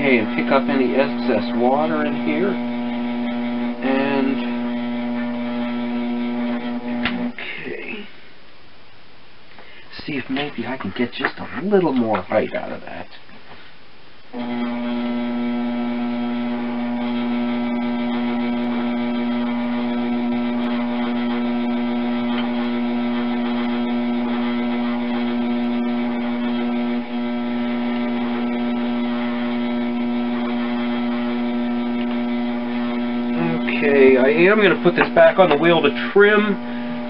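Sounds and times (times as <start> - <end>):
potter's wheel motor hum: 0.0 - 7.8, 14.4 - 37.0.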